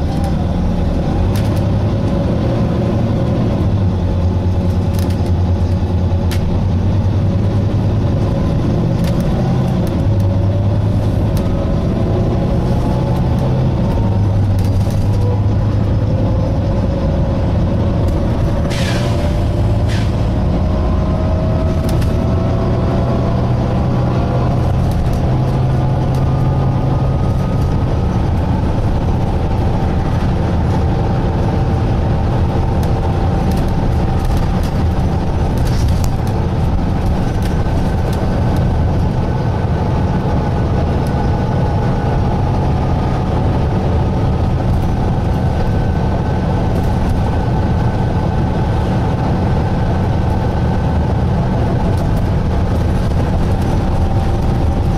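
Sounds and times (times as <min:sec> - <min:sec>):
bus diesel engine drone: 0:00.0 - 0:54.9
rising whine: 0:05.6 - 0:54.9.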